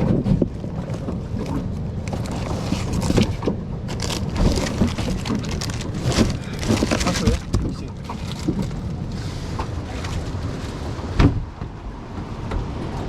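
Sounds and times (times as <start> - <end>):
knocks and splashes of waves: 0.0 - 13.0
wind rumbling on microphone: 0.0 - 13.0.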